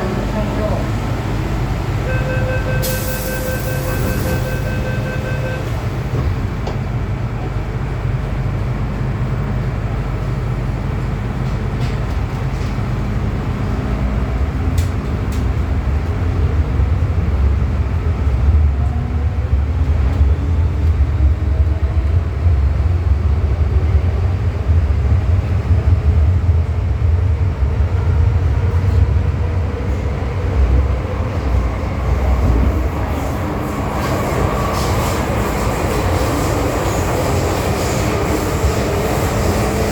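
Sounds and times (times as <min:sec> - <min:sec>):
metro train rumbling: 0:00.0 - 0:39.9.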